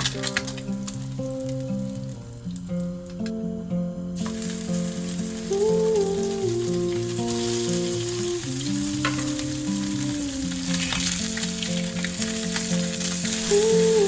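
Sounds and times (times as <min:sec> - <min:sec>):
background music: 0:00.0 - 0:14.0
food sizzling in a pan: 0:00.0 - 0:14.0.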